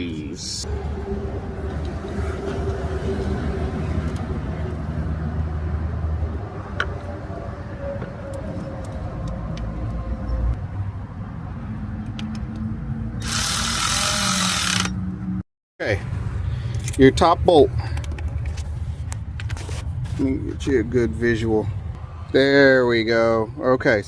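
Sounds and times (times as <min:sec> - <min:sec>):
vehicle engine rumbling: 0:00.0 - 0:23.6.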